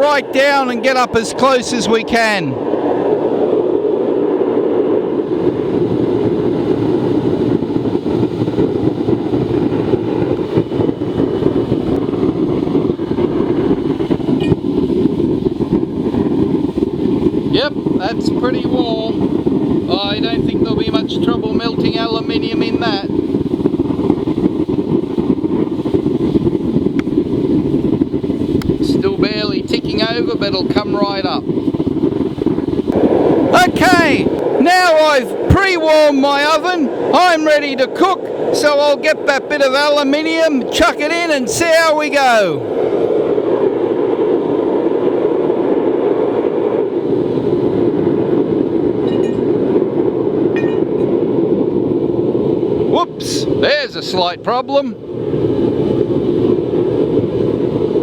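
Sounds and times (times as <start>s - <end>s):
oil burner flame rumbling: 0.0s - 58.0s.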